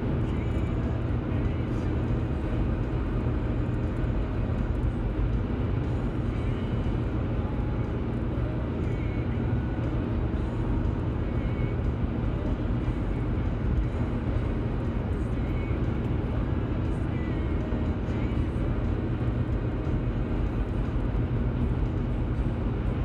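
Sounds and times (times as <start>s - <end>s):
car cabin road and engine noise: 0.0s - 23.0s.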